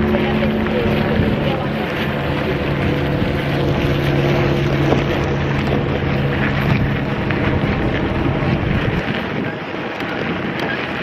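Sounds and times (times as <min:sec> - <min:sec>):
steady low hum: 0:00.0 - 0:09.4
wind buffeting microphone: 0:00.0 - 0:11.0.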